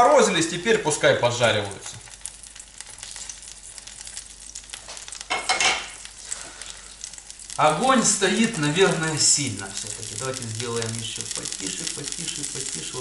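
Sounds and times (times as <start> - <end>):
dumplings sizzling in oil: 0.0 - 13.0.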